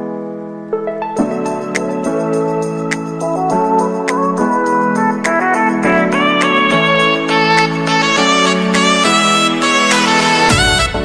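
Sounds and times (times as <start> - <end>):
melodic background music: 0.0 - 11.0.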